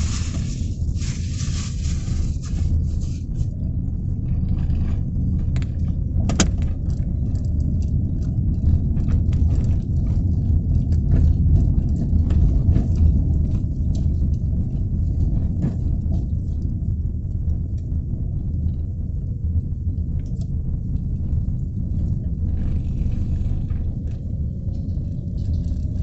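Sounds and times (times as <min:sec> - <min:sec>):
light rain ticking and tapping: 0:04.2 - 0:26.0.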